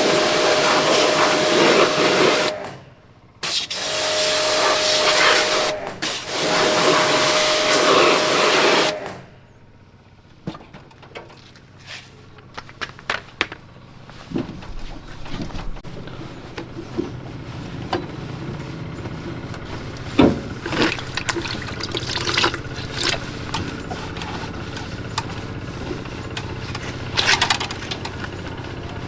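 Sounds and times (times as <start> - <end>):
air blower whining: 0.0 - 29.0.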